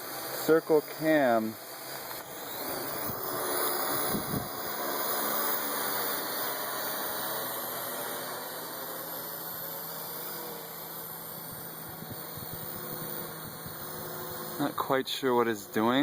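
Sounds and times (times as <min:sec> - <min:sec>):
drone rotors whirring: 0:00.0 - 0:16.0.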